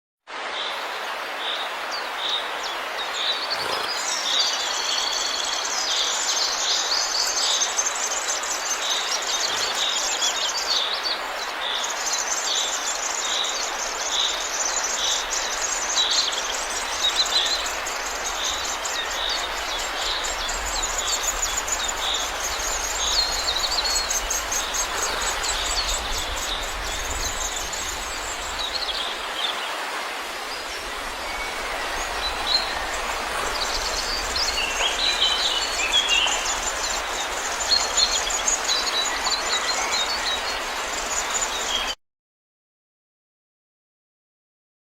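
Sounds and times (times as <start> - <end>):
steady hiss: 0.3 - 42.0.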